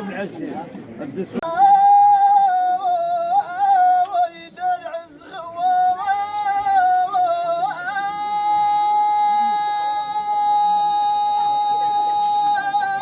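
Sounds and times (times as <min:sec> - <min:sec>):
solo voice singing chant: 0:01.4 - 0:13.0.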